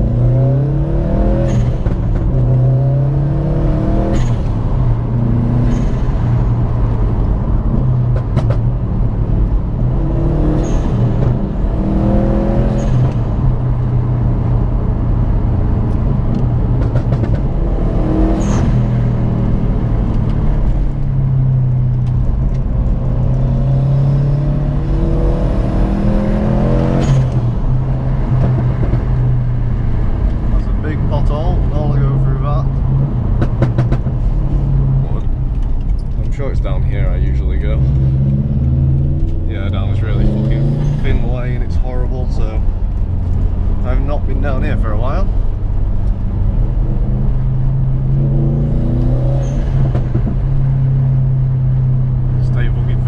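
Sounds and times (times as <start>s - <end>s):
car engine revving: 0.0s - 53.0s
road noise: 0.0s - 53.0s.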